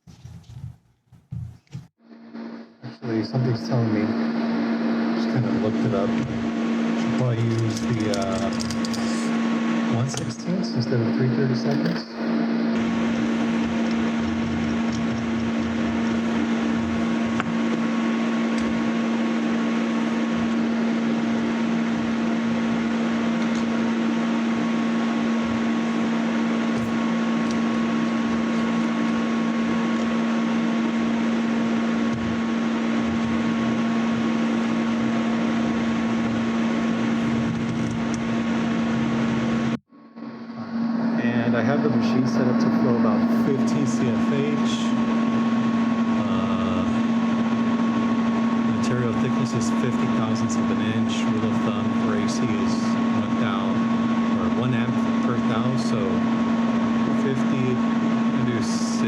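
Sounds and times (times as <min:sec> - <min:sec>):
electric motor hum: 0:00.0 - 0:59.0.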